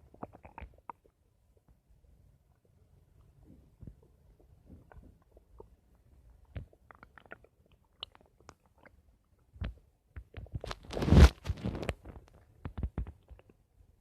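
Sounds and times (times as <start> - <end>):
stomach gurgling: 0.0 - 13.8.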